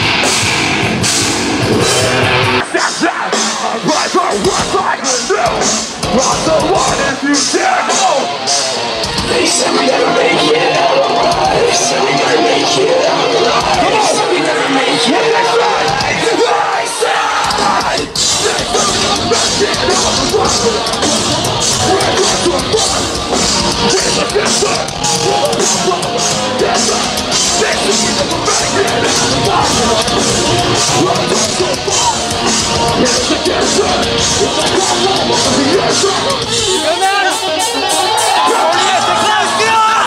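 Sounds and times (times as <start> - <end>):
fast drumbeat: 0.0 - 40.0
heavy rock music: 0.0 - 40.0
yelled vocals: 0.0 - 40.0.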